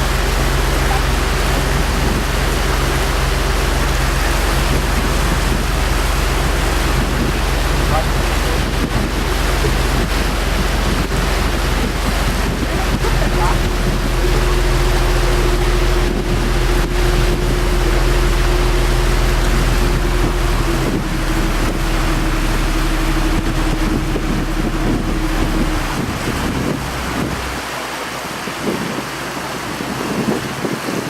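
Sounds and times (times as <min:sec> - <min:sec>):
boat engine running: 0:00.0 - 0:31.0
steady engine hum: 0:00.0 - 0:31.0
water rushing past hull: 0:00.0 - 0:31.0
wind noise on microphone: 0:00.0 - 0:31.0.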